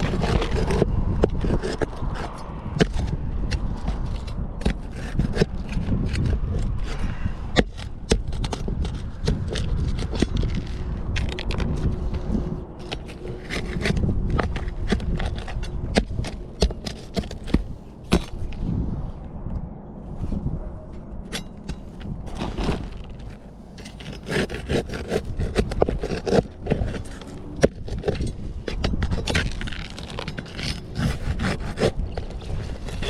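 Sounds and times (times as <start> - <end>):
scraping and rubbing: 0.0 - 19.1, 20.1 - 33.0.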